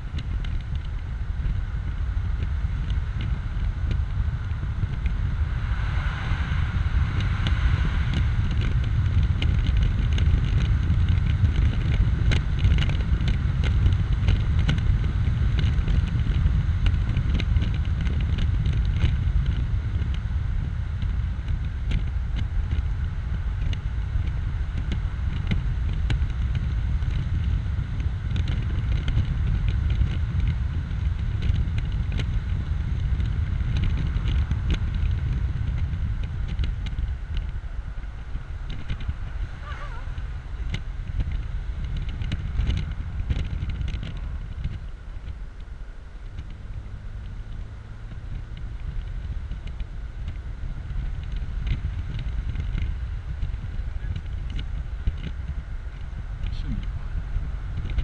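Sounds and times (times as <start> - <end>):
road noise: 0.0 - 58.0
wind buffeting: 0.0 - 58.0.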